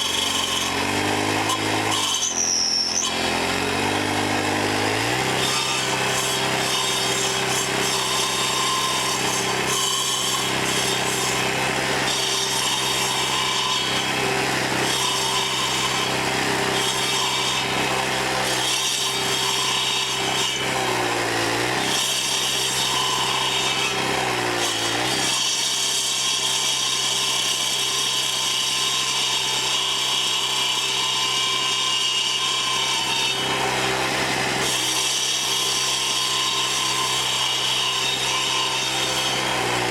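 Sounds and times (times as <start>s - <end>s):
saw blades grinding into wood: 0.0s - 39.9s.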